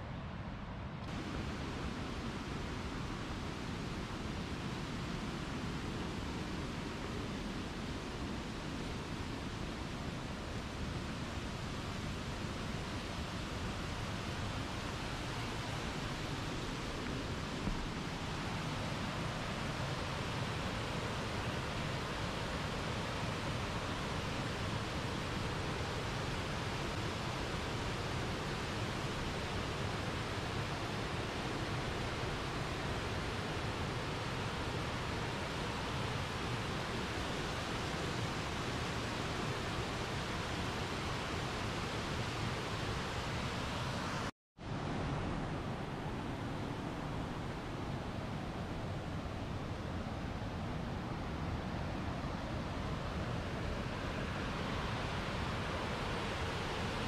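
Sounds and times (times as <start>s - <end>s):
waterfall rushing over rocks: 1.1s - 50.3s, 51.3s - 57.0s.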